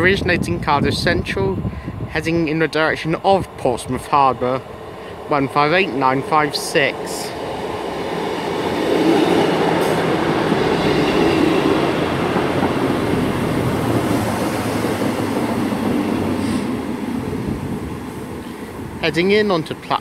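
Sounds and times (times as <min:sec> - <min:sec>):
train engine and wheels rumbling: 0:00.0 - 0:20.0.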